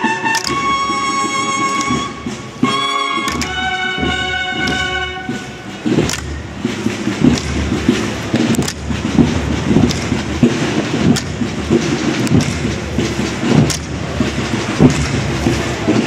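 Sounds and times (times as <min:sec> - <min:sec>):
knocks and sharp clicks: 0:00.0 - 0:16.0.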